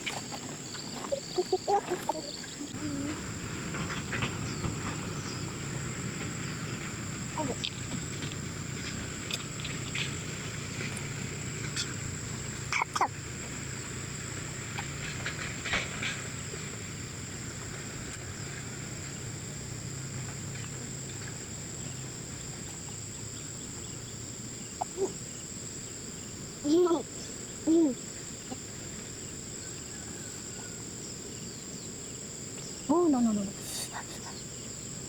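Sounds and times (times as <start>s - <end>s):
insects droning: 0.0s - 35.0s
low background hum: 0.0s - 35.0s.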